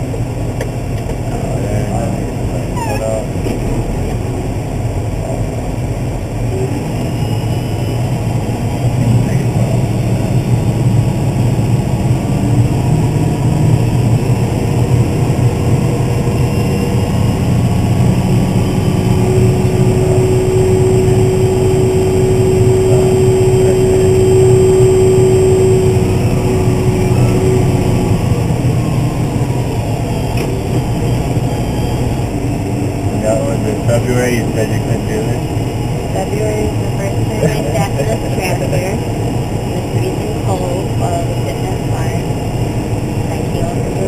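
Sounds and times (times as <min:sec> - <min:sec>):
steady whine: 0:00.0 - 0:44.0
tractor diesel engine running: 0:00.0 - 0:44.0.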